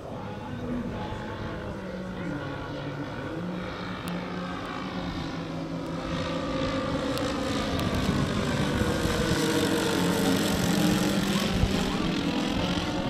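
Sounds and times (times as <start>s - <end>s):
model plane propeller engines droning: 0.0s - 13.0s.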